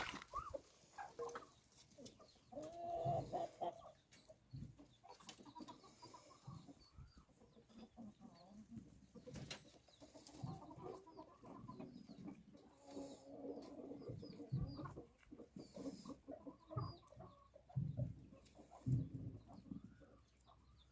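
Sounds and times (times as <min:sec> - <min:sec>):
chickens clucking softly: 0:00.0 - 0:20.9.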